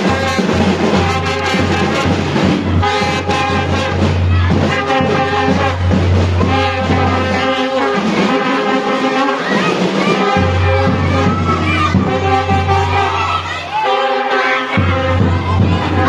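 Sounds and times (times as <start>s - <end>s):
bugles playing: 0.0s - 16.0s
side drums: 0.0s - 16.0s.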